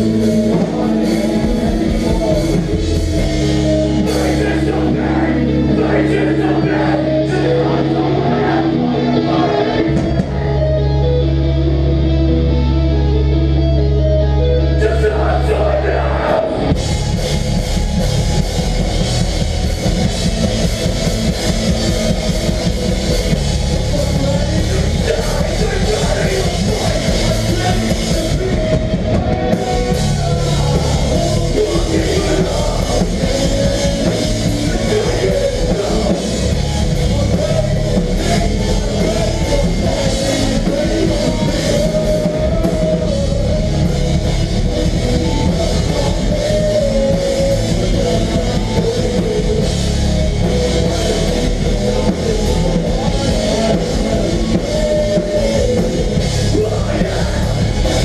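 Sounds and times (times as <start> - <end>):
live heavy rock band: 0.0 - 58.0.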